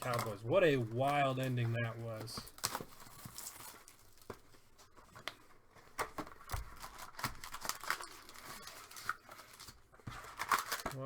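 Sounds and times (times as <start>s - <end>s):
cards clicking and snapping: 0.0s - 11.0s
paper rustling: 0.0s - 11.0s.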